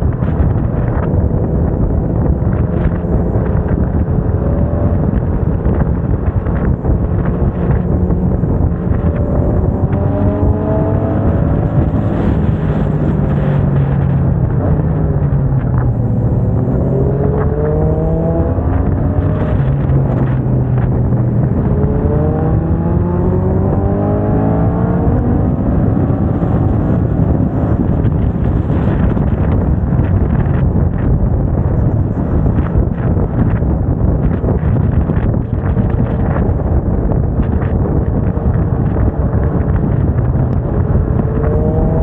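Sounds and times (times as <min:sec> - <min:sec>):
motorcycle engine accelerating: 0:00.0 - 0:42.0
wind rush on microphone: 0:00.0 - 0:42.0.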